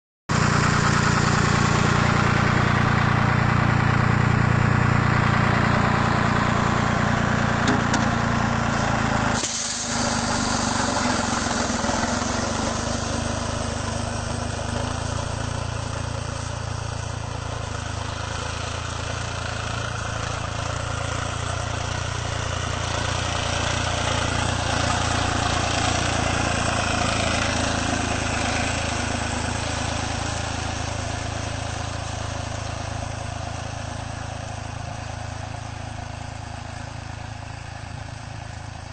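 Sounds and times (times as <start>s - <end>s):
tractor diesel engine running: 0.3s - 38.9s.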